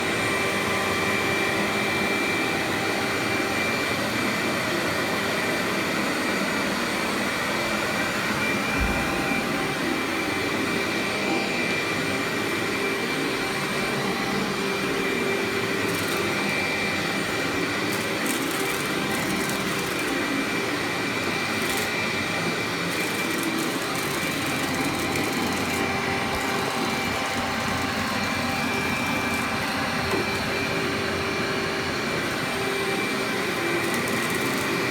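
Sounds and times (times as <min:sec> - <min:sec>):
vacuum cleaner running on carpet: 0:00.0 - 0:34.9.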